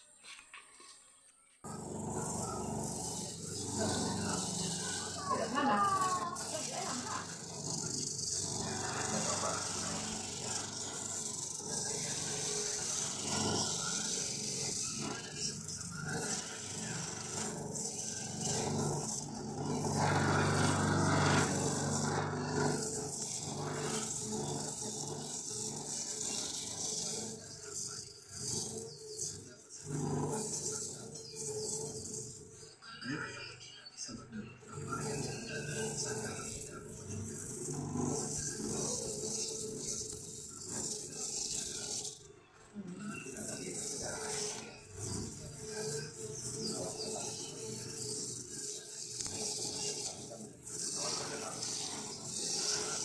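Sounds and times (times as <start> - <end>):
electric grater motor hum: 1.6 - 32.7, 34.6 - 53.0
grater disc rasping food: 1.6 - 32.8, 34.6 - 53.0.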